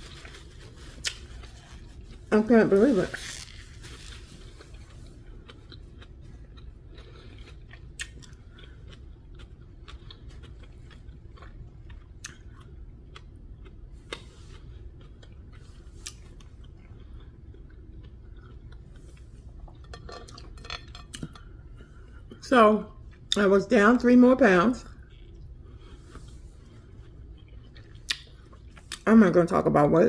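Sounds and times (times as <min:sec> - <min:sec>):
person quietly chewing: 0:00.0 - 0:02.3, 0:03.2 - 0:22.4, 0:24.9 - 0:29.1
low room hum: 0:00.0 - 0:30.0.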